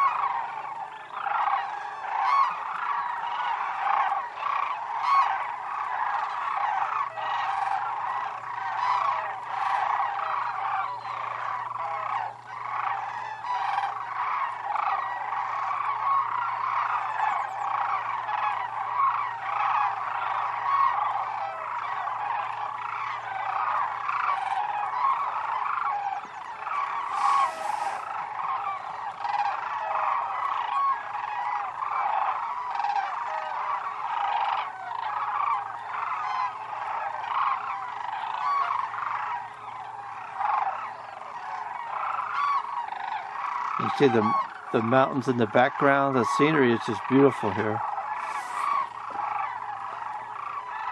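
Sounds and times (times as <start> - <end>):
sandhill cranes calling: 0.0 - 50.9.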